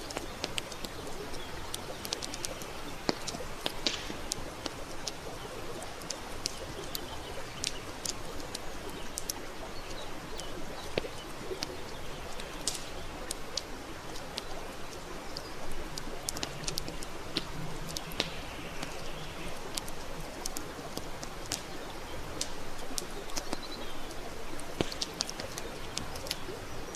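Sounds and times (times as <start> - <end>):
steady hiss of fire: 0.0 - 26.9
wood fire crackling: 0.0 - 26.9.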